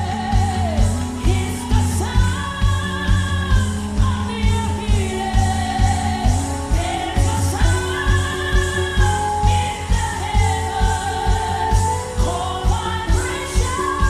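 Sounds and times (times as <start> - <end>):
band playing gospel music: 0.0 - 14.0
voices singing: 0.0 - 14.0.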